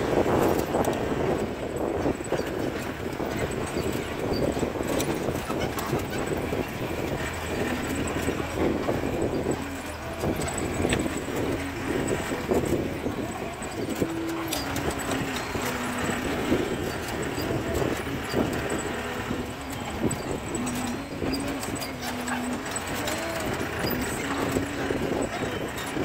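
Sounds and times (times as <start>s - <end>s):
jeep engine running: 0.0s - 26.0s
vehicle body rattling and knocking: 0.0s - 26.0s.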